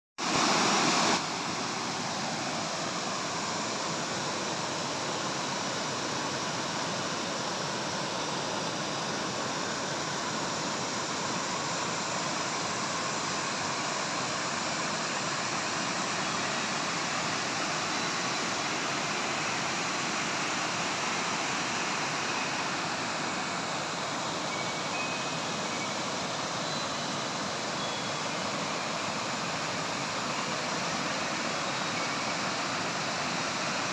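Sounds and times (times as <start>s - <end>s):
water cascading over a dam: 0.2s - 33.9s.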